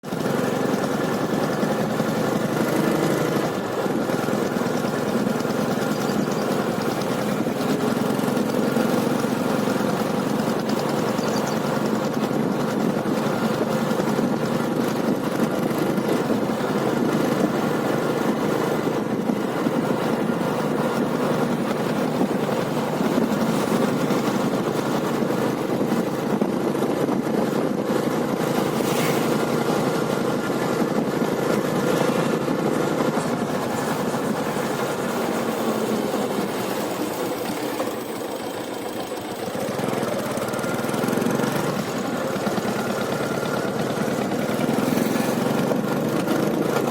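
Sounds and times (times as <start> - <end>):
motorcycle diesel engine running: 0.0 - 46.9.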